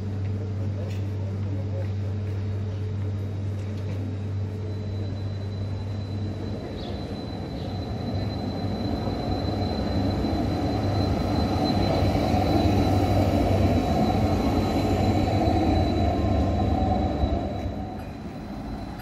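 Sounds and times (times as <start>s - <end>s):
tram running past: 1.6s - 19.0s.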